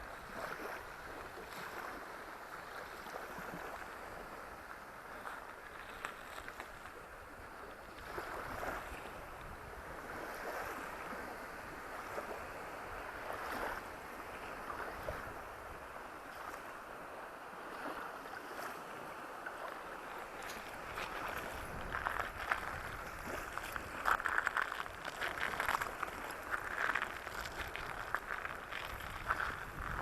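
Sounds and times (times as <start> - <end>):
surf breaking on a beach: 0.0 - 30.0.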